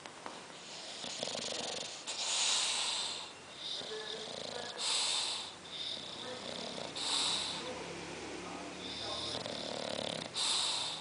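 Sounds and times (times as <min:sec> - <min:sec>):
dog snoring: 0:00.6 - 0:11.0.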